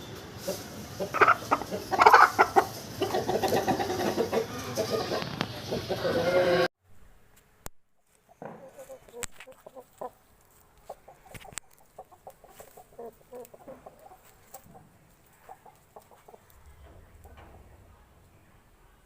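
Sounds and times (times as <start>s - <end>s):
chickens clucking: 0.0s - 6.7s, 8.2s - 17.9s.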